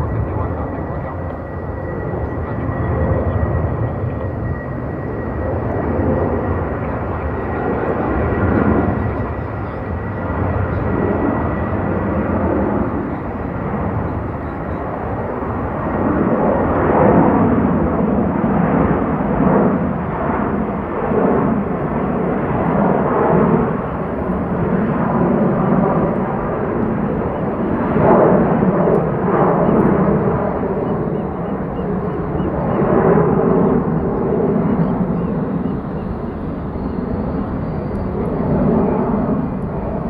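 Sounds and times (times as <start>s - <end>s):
jet engine rushing: 0.0s - 40.0s.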